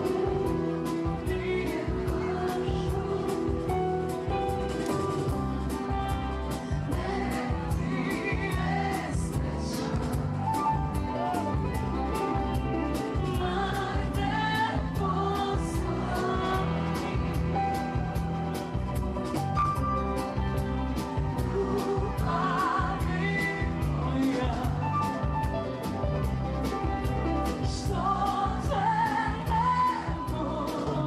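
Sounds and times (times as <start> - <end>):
person singing: 0.0 - 4.9, 6.4 - 18.4, 21.4 - 25.8, 26.8 - 31.0
bass: 0.0 - 31.0
pop-rock song: 0.0 - 31.0.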